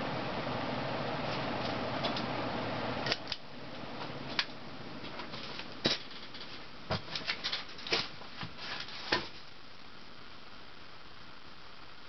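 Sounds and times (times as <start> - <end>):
ceiling fan whir: 0.0 - 12.0.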